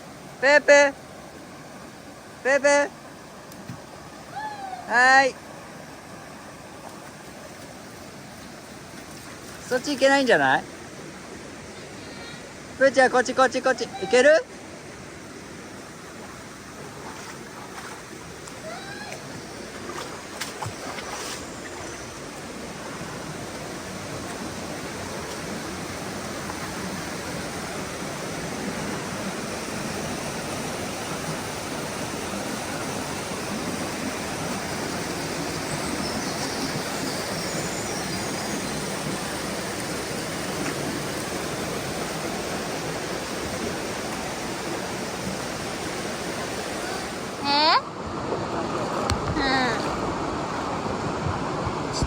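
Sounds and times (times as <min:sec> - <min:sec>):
stream water rushing over rocks: 0:00.0 - 0:52.0.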